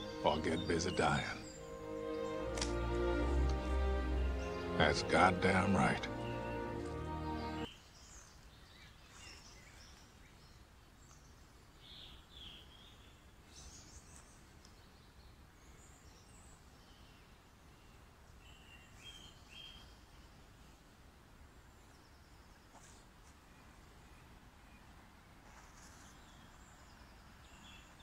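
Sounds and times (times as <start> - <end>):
faint birdsong: 0.0 - 28.0
low background noise: 0.0 - 28.0.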